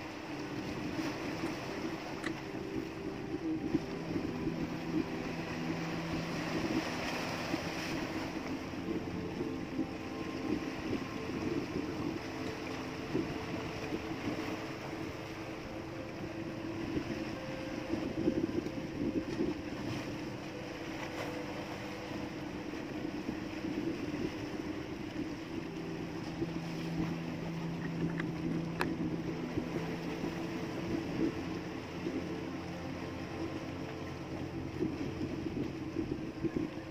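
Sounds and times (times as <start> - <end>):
boat engine humming: 0.0 - 36.9.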